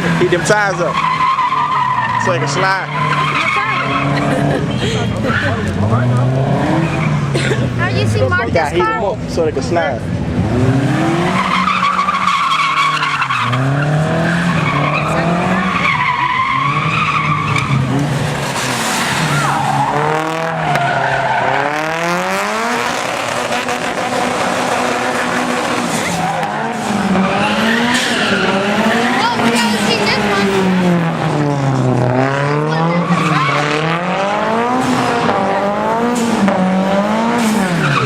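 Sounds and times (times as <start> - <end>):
tires squealing: 0.0 - 9.0, 10.0 - 38.0
car engine revving: 0.0 - 38.0.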